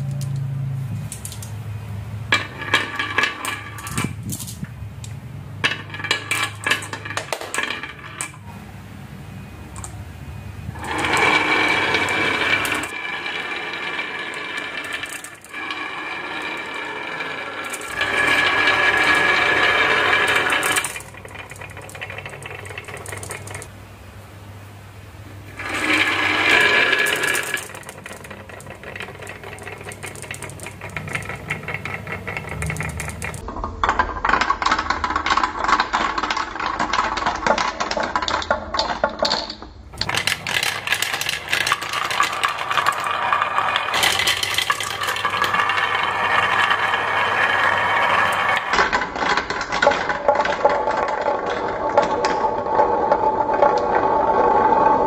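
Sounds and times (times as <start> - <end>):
marbles rattling down wooden track: 1.0 - 1.6, 2.3 - 8.5, 10.7 - 23.7, 25.5 - 55.0.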